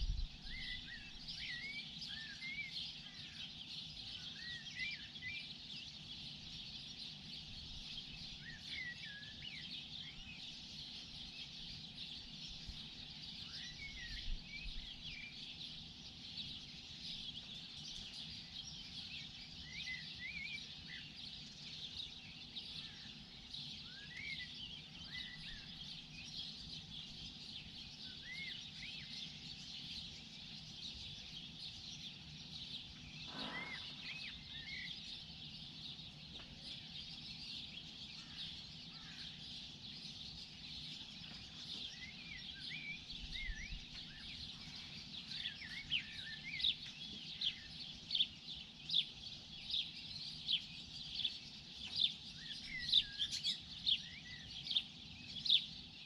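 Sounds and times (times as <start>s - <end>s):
faint background hum: 0.0s - 56.0s
songbirds chirping: 0.0s - 56.0s.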